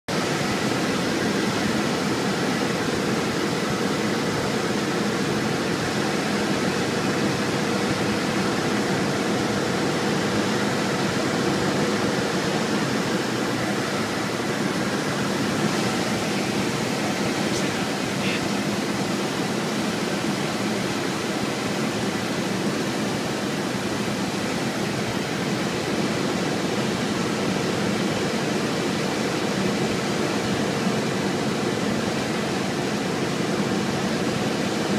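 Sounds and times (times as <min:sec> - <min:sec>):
propeller airplane engine droning: 0:00.1 - 0:34.9
rushing airflow: 0:00.2 - 0:29.1.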